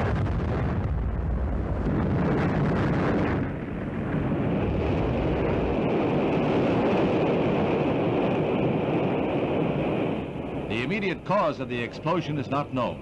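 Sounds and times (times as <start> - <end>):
roar of blast and fire: 0.0 - 10.7
deep rumble: 0.0 - 13.0.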